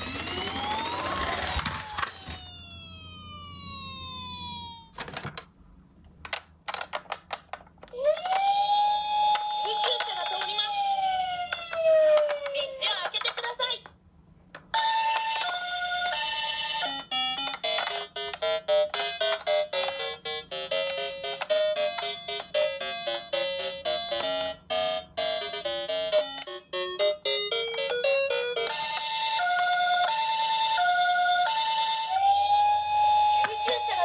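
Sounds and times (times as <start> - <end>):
toy two-tone siren: 0.0 - 5.1, 8.0 - 12.8, 14.8 - 34.0.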